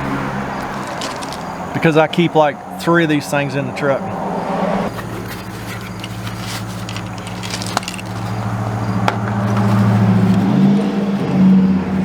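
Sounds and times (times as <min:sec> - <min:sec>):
highway traffic drone: 0:00.0 - 0:12.0.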